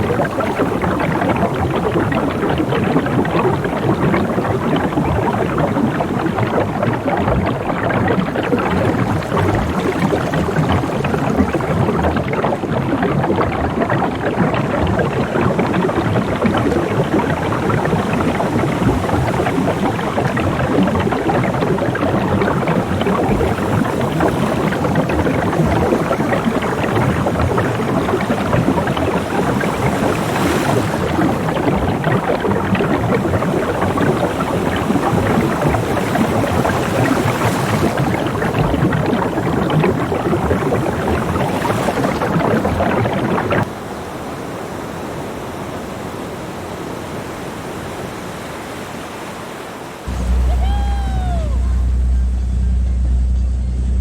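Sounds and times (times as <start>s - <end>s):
water splashing and rushing: 0.0s - 53.1s.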